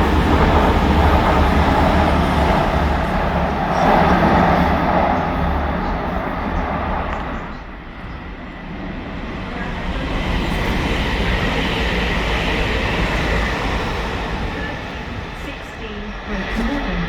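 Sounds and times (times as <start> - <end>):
train rumble and rush: 0.0 - 17.0.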